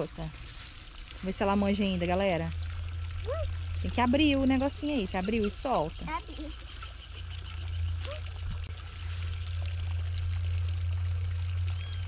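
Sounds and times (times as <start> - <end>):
low rumble: 0.0 - 12.0
running water hiss: 0.0 - 12.0.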